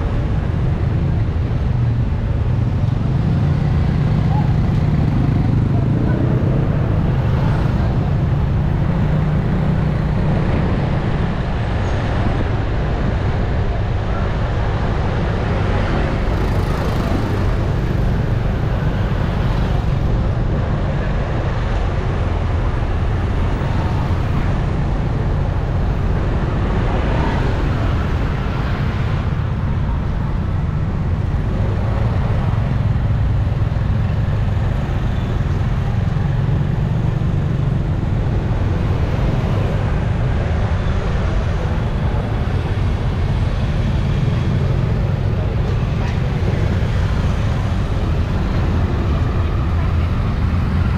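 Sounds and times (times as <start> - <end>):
city street traffic rumble: 0.0 - 50.9.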